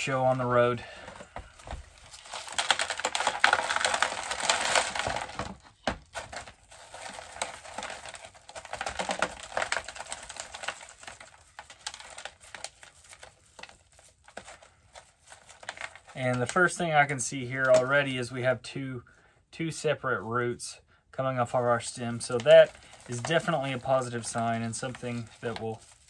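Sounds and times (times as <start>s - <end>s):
potting soil crackling: 0.0s - 18.4s, 21.3s - 26.0s.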